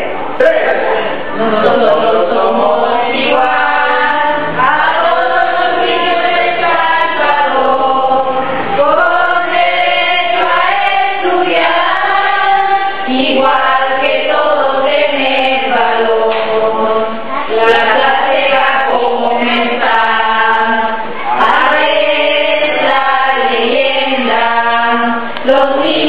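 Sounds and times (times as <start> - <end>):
choir singing slowly: 0.0 - 26.0.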